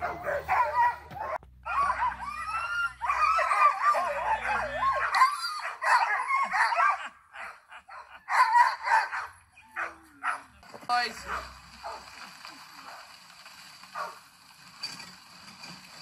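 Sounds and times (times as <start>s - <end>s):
sled dogs barking and yipping: 0.0s - 16.0s.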